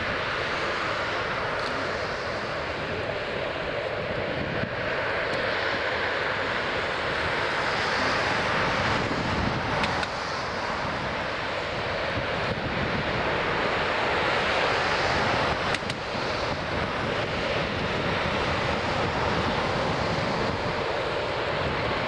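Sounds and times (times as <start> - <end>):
jet engines running at low power: 0.0 - 22.0.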